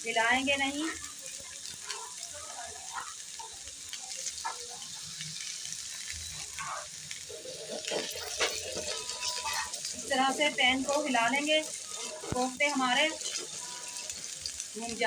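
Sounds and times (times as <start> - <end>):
meatballs sizzling in oil: 0.0 - 15.0.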